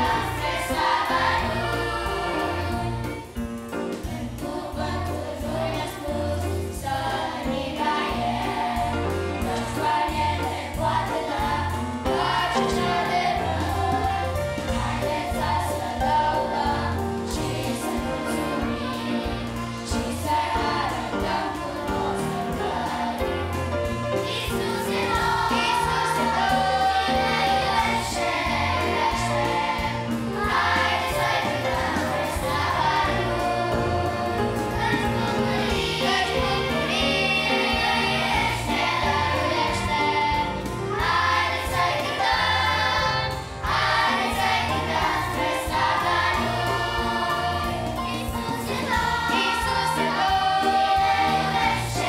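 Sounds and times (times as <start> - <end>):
children's choir singing: 0.0 - 52.0
instrumental accompaniment: 0.0 - 52.0.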